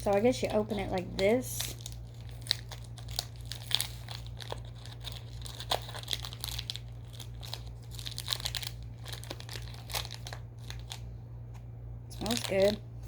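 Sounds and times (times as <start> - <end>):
plastic wrapper crinkling: 0.0 - 12.8.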